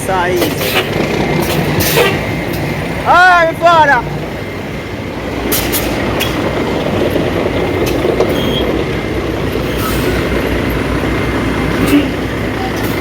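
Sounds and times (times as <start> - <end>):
truck knocks and rattles: 0.0 - 3.1, 4.0 - 13.0
diesel truck engine running: 0.0 - 13.0.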